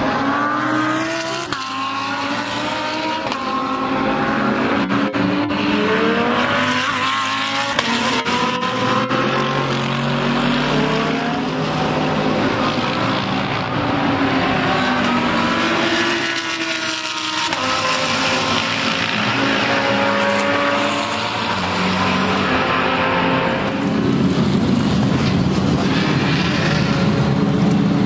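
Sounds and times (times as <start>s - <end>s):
race car engine accelerating: 0.0s - 28.0s.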